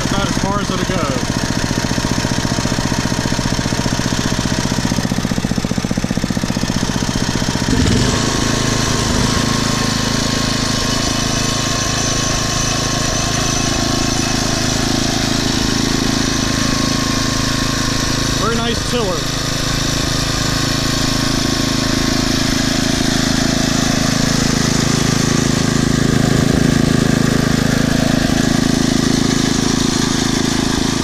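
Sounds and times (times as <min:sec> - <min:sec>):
small engine idling: 0:00.0 - 0:31.0.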